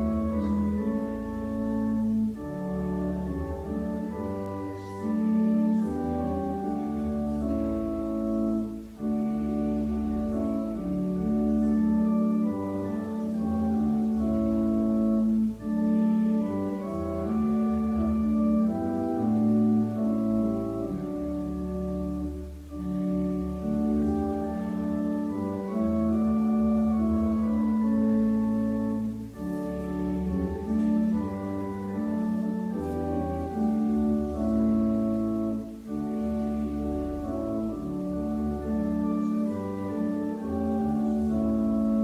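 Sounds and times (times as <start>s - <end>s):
church organ playing slow chords: 0.0s - 42.0s.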